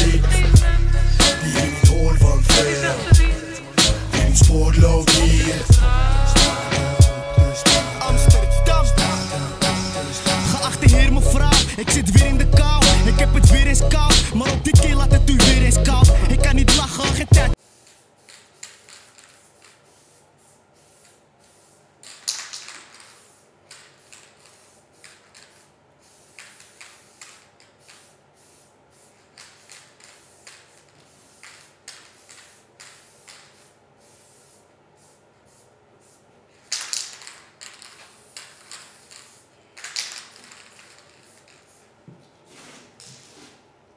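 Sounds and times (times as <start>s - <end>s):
paint strokes hissing on canvas: 0.0s - 13.4s, 16.8s - 43.6s.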